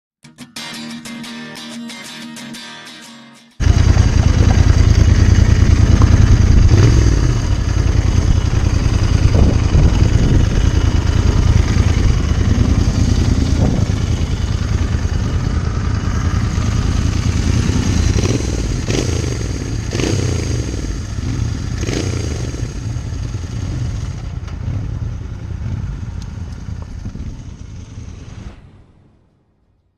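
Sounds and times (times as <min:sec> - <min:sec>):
motorcycle exhaust running: 0:03.6 - 0:28.2.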